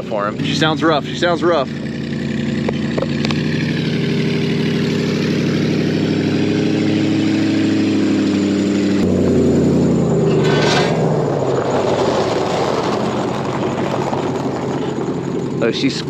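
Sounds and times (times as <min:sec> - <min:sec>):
rough truck engine running: 0:00.0 - 0:16.0.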